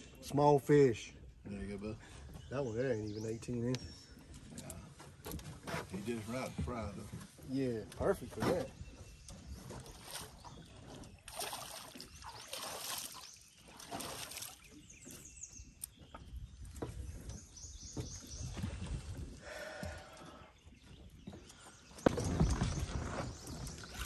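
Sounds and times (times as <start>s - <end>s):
water sloshing against boat: 4.0s - 24.0s.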